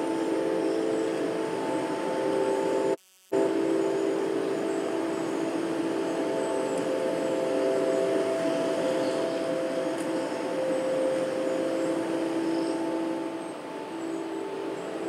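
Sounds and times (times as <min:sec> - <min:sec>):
noisy drone with held tones: 0:00.0 - 0:15.0.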